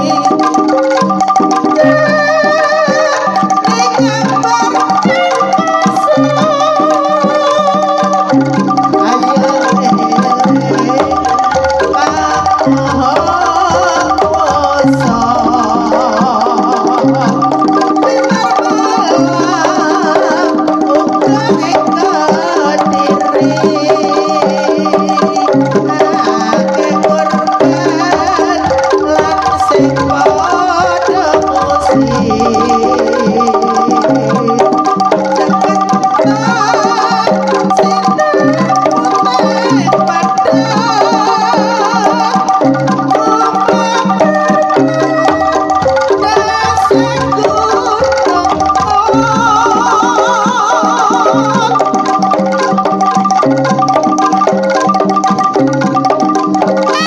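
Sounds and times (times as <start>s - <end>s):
gamelan percussion: 0.0s - 57.0s
hand drumming: 0.0s - 57.0s
metallophones playing: 0.0s - 57.0s
wavering melody line: 0.0s - 57.0s.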